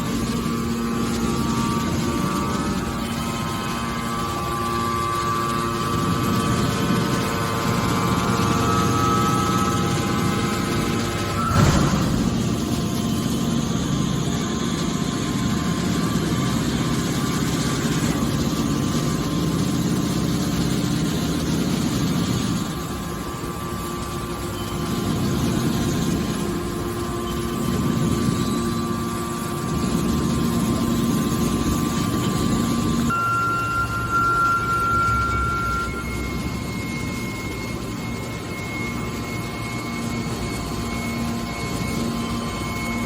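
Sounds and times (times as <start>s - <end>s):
baler machine hum: 0.0s - 43.0s.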